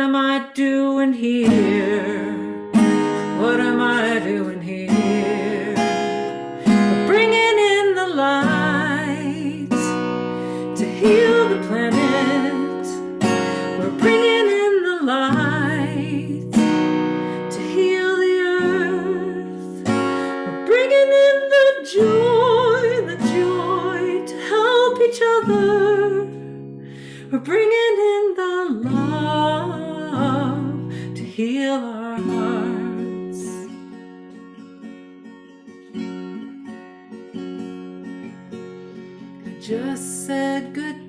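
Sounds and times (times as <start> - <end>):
woman singing with vibrato: 0.0 - 26.6, 27.2 - 33.7, 39.6 - 41.0
acoustic guitar strumming: 1.4 - 27.0, 32.2 - 40.8.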